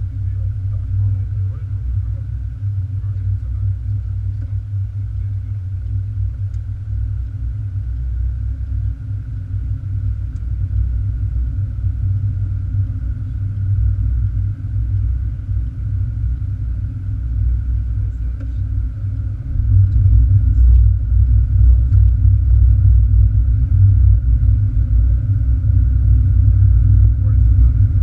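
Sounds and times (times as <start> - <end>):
car engine and tyres rumbling: 0.0 - 28.0
faint higher hum: 0.0 - 28.0.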